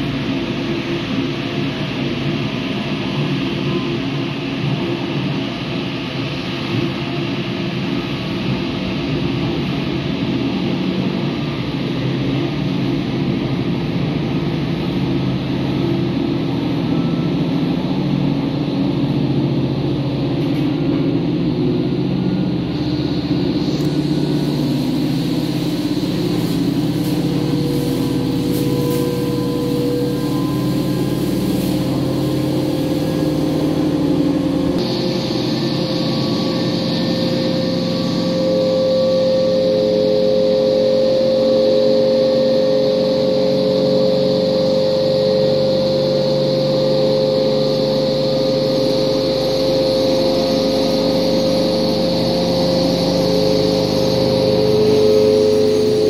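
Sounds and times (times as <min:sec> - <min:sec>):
steady motor drone: 0:00.0 - 0:56.0.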